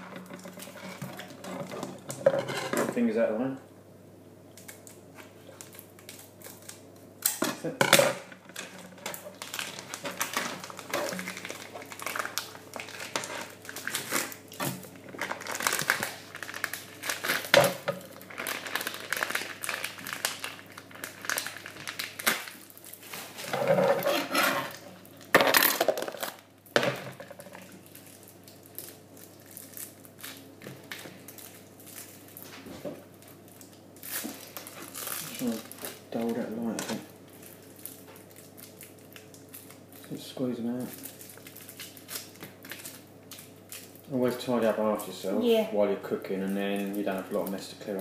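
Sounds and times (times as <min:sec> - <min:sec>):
plastic wrappers crinkling: 0:00.0 - 0:03.0, 0:04.6 - 0:07.4, 0:08.4 - 0:45.6, 0:46.3 - 0:48.0.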